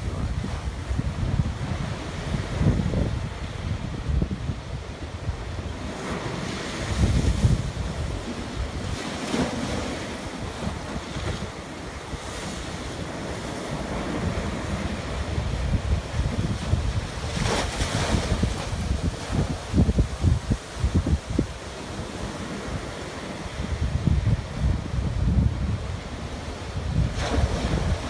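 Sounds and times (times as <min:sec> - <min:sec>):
sea waves breaking against wall: 0:00.0 - 0:28.0
wind buffeting microphone: 0:00.0 - 0:28.0.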